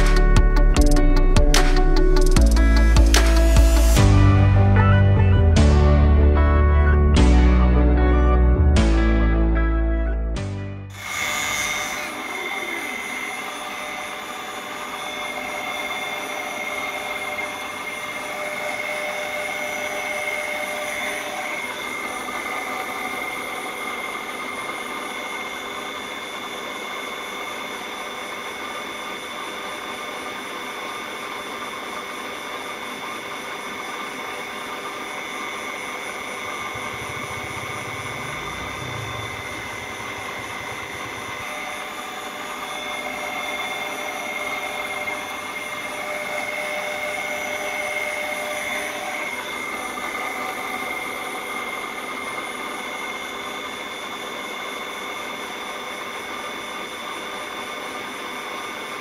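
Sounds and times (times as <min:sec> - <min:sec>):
water pump whining: 0:10.9 - 0:59.0.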